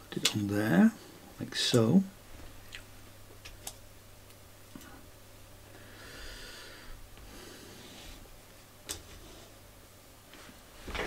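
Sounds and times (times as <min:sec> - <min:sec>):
soft hissing breaths: 0:00.3 - 0:03.0, 0:04.7 - 0:11.0.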